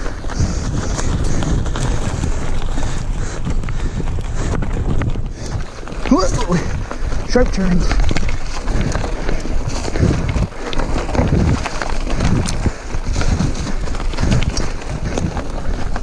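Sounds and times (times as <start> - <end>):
bike rattling over bumps: 0.0 - 16.0
bike tyres on dirt: 0.0 - 16.0
wind on microphone: 0.0 - 16.0.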